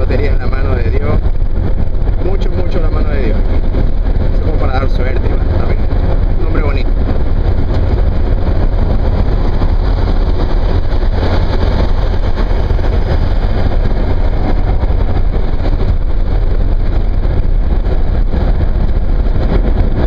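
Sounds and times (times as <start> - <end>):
car driving on highway from inside: 0.0 - 20.0.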